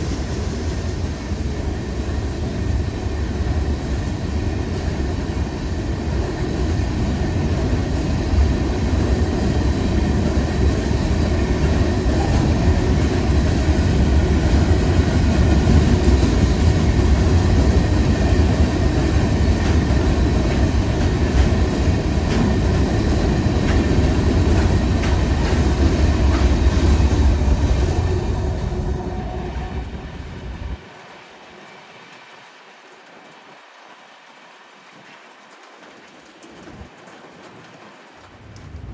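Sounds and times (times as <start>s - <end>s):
freight train cars rumbling: 0.0s - 31.3s
wheels clicking over rail joints: 3.8s - 28.3s, 30.7s - 38.9s.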